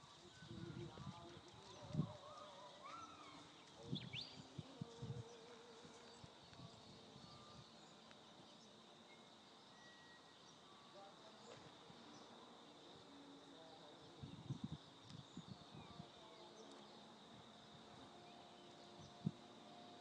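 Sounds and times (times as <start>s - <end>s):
faint high insect drone: 0.0s - 20.0s.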